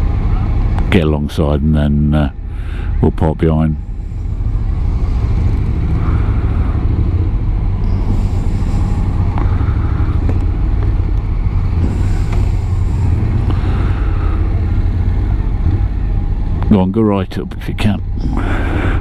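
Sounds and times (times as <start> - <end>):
motorcycle engine low rumble: 0.0 - 19.0.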